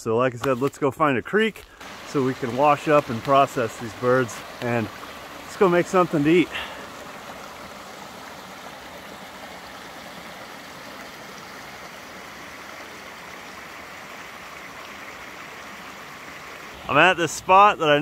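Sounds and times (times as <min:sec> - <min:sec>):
creek water rushing over stones: 0:00.4 - 0:18.0.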